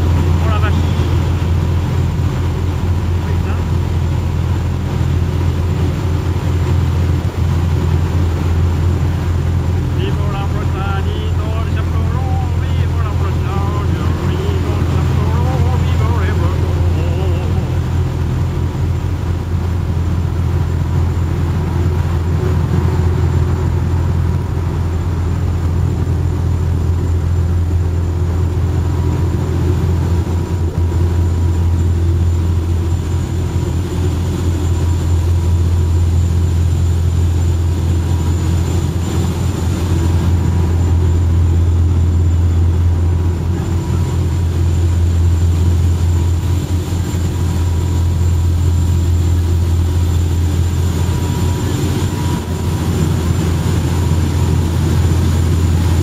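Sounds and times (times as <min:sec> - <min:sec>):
ferry engines droning: 0:00.0 - 0:56.0.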